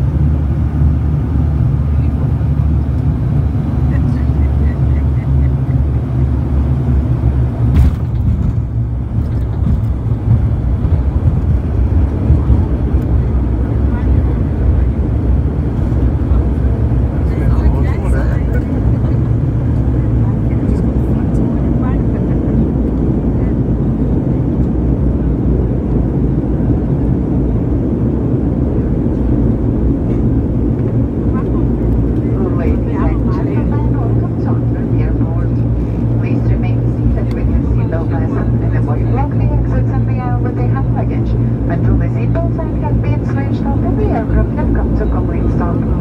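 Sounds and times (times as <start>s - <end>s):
turboprop cabin low rumble: 0.0s - 46.0s.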